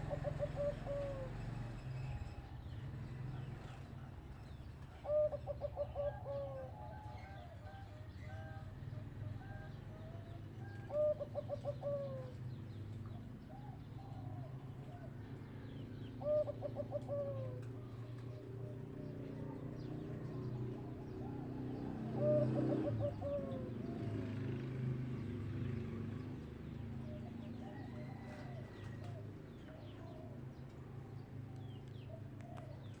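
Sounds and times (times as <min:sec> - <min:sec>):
dove cooing: 0:00.0 - 0:01.8, 0:03.8 - 0:25.3, 0:26.8 - 0:30.6, 0:31.5 - 0:33.0
faint cooing of other doves: 0:00.0 - 0:33.0.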